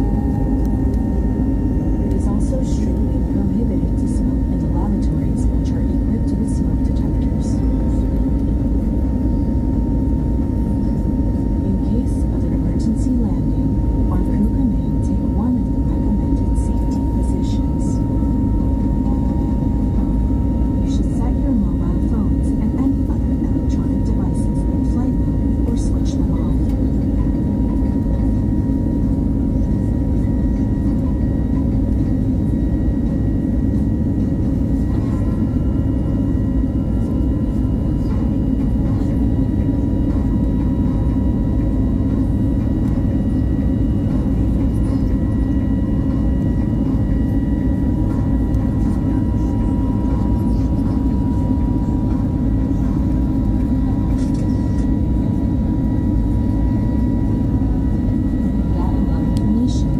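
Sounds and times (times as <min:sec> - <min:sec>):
jet airliner cabin roar: 0:00.0 - 0:59.9.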